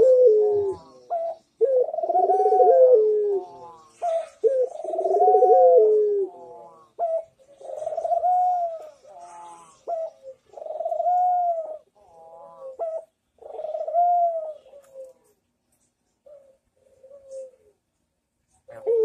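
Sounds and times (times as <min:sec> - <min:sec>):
dove cooing: 0:00.0 - 0:15.4, 0:16.2 - 0:17.9, 0:18.6 - 0:19.0.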